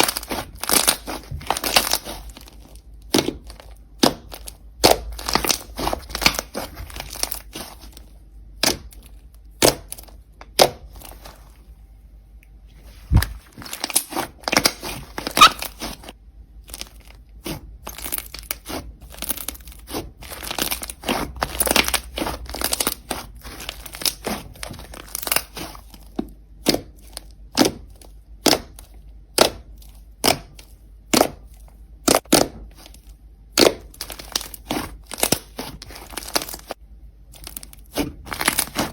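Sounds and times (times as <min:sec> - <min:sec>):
slime popping and crackling: 0:00.0 - 0:11.3, 0:13.1 - 0:38.9.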